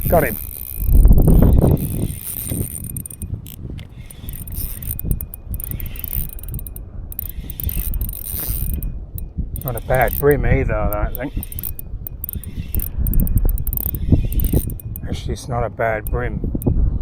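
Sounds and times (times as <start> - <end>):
fishing reel being cranked: 0.0 - 16.7
wind buffeting microphone: 0.0 - 17.0.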